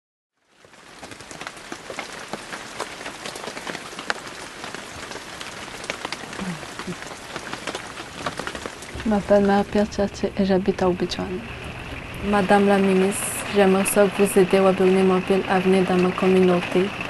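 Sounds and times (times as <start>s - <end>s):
rain drops tapping: 0.4s - 17.0s
steady rain hiss: 0.4s - 17.0s.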